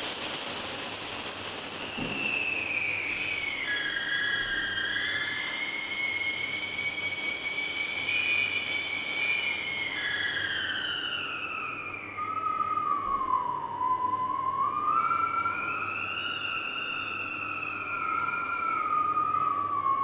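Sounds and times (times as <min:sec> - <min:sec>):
air whistling through gaps: 0:00.0 - 0:20.0.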